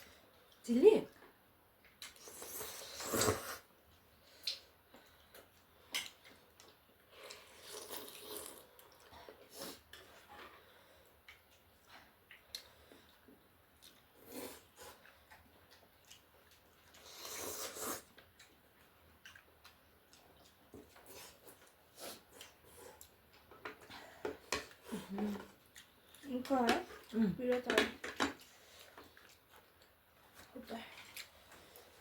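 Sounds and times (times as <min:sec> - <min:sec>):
person chewing food: 0:01.8 - 0:27.2, 0:28.0 - 0:32.0.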